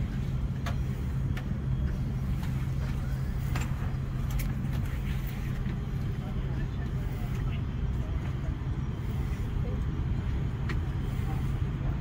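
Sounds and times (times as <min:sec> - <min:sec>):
airliner cabin hum: 0:00.0 - 0:12.0.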